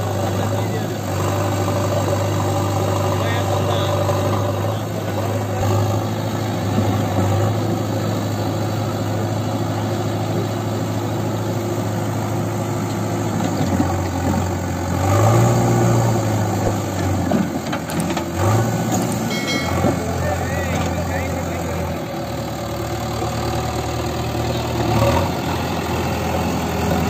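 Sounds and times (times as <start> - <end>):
backhoe diesel engine running: 0.0 - 27.0.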